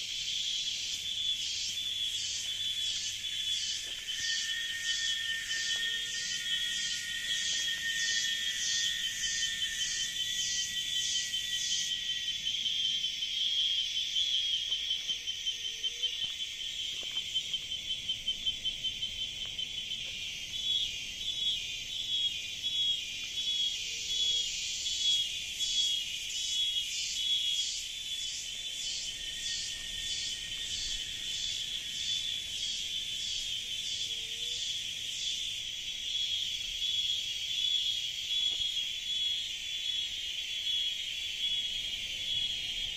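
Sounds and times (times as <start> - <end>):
cicada chorus: 0.0 - 42.9
pulsing cicada song: 0.0 - 42.9.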